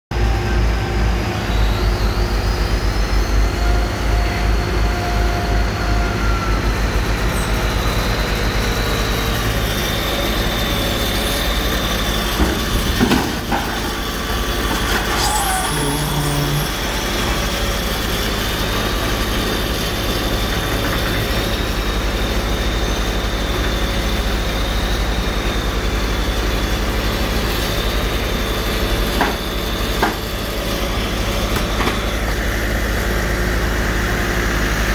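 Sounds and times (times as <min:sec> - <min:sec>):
heavy diesel engine with hydraulic whine: 0:00.1 - 0:34.9.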